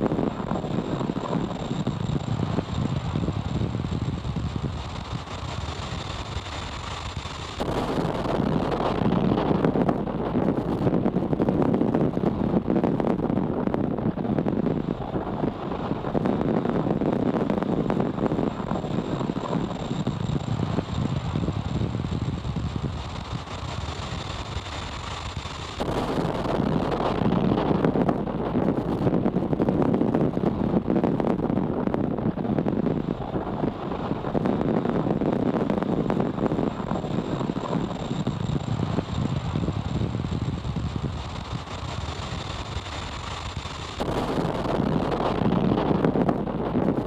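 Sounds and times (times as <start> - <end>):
rocket crackling rumble: 0.0 - 47.0.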